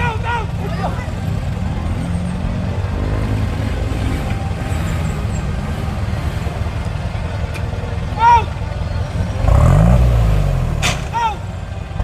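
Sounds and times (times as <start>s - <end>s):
off-road vehicle engine rumble: 0.0s - 12.0s.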